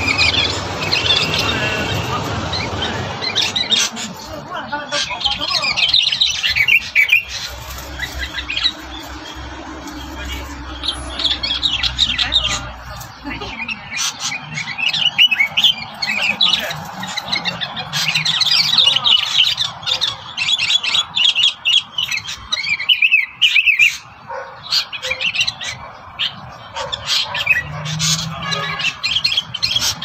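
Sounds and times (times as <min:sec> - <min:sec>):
songbirds chirping and squawking: 0:00.0 - 0:30.0.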